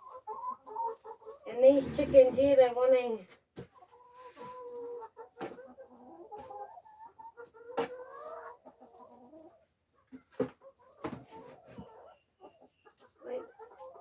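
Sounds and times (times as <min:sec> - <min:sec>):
hens clucking: 0:00.0 - 0:02.9, 0:03.6 - 0:14.0.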